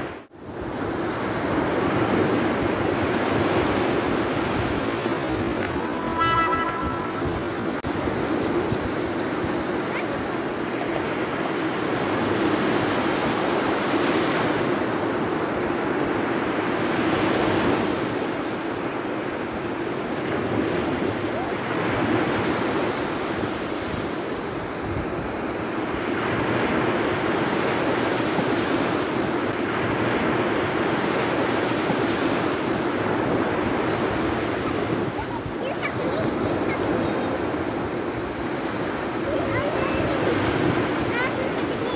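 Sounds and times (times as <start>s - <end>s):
sea waves breaking on beach: 0.0s - 41.9s.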